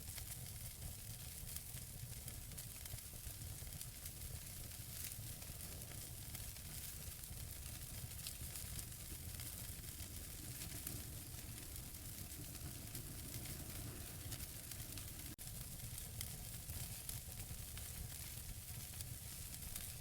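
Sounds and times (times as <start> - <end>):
burning logs crackling and popping: 0.0 - 20.0
fireplace fire hissing: 0.0 - 20.0.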